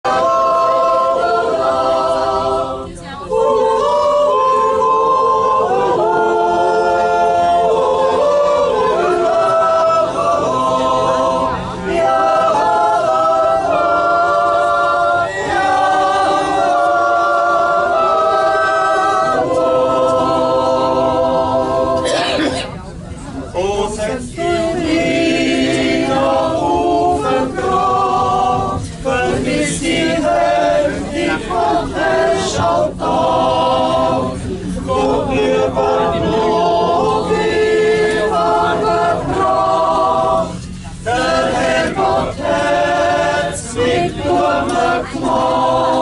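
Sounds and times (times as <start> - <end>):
group singing in harmony: 0.0 - 22.6, 23.5 - 46.0.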